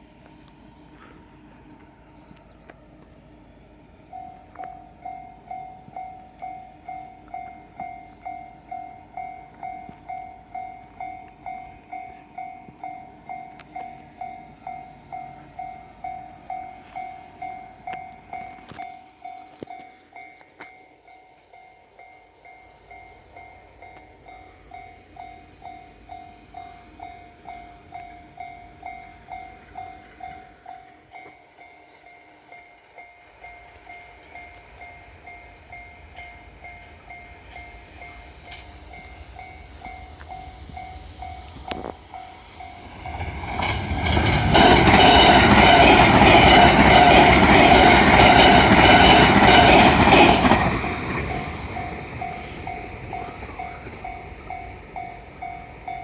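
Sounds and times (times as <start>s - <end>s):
train passing: 0.0s - 56.0s
level-crossing bell ringing: 4.0s - 56.0s.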